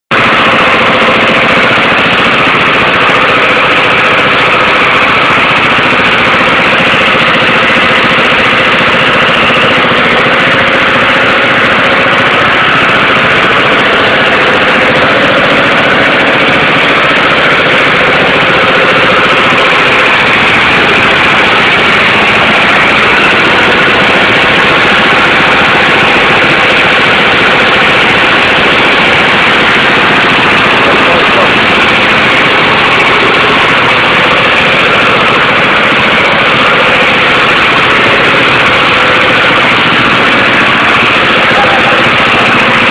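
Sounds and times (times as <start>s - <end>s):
diesel engine knocking clatter: 0.1s - 42.9s.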